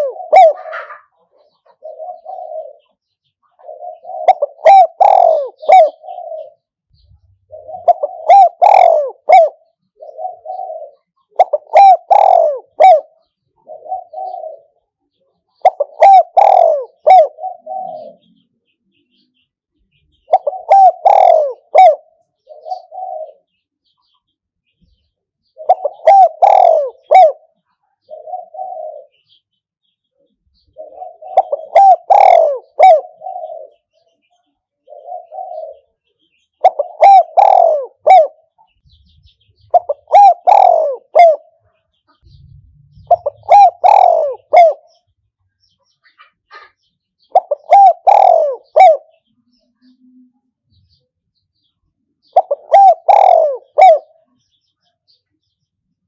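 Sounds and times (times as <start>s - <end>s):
dove cooing: 0.0s - 18.5s, 19.9s - 23.6s, 25.0s - 29.5s, 30.2s - 45.2s, 46.1s - 51.0s, 52.2s - 54.6s.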